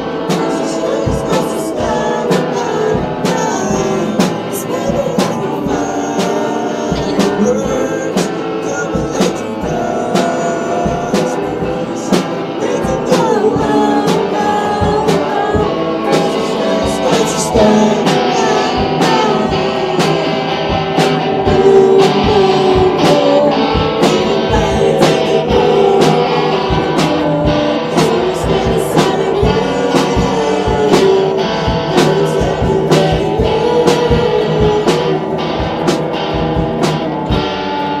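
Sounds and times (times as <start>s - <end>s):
pop song with singing: 0.0s - 38.0s.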